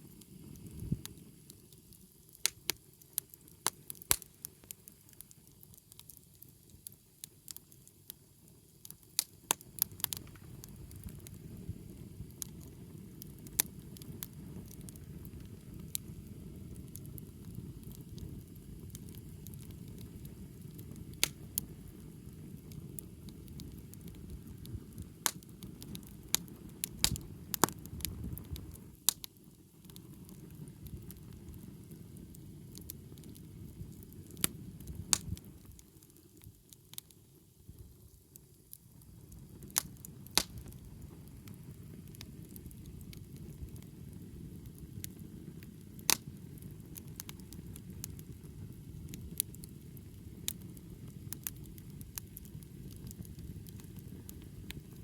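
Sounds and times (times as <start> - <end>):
campfire burning and crackling: 0.0 - 55.0.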